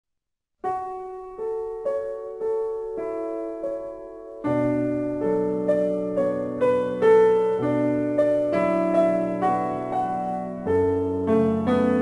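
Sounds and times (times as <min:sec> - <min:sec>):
slow piano music: 0:00.6 - 0:12.0
deep bass piano chords: 0:00.7 - 0:12.0.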